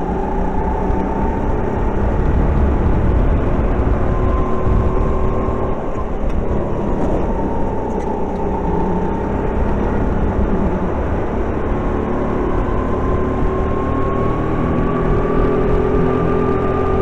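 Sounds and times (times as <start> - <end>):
kart engine running hard: 0.0 - 17.0
loud steady rushing noise: 0.0 - 17.0.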